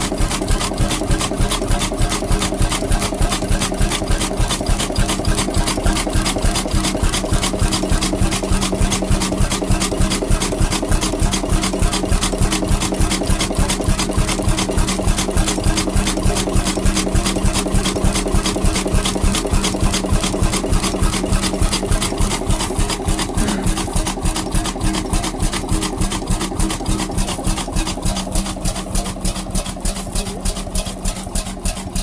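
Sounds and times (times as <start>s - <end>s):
engine running with rapid beat: 0.0s - 32.0s.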